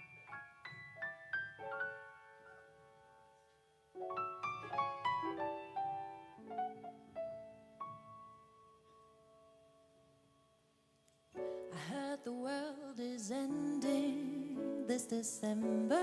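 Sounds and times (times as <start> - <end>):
solo piano: 0.0 - 10.6, 11.3 - 16.0.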